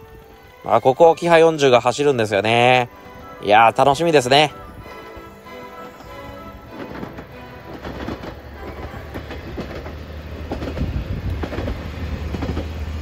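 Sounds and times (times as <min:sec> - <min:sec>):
diesel railcar engine drone: 0:00.0 - 0:13.0
wheels clacking over rail joints: 0:00.0 - 0:13.0.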